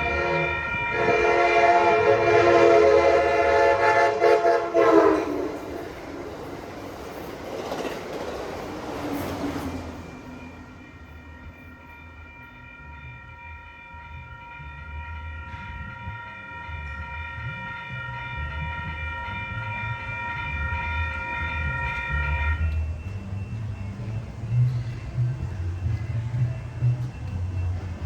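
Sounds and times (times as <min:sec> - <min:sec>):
low rail rumble: 0:00.0 - 0:28.0
railroad crossing warning tone: 0:00.0 - 0:28.0.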